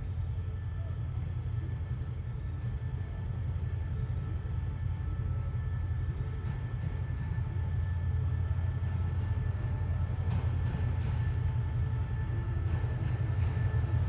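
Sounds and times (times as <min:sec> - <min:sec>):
locomotive low rumble: 0:00.0 - 0:14.0.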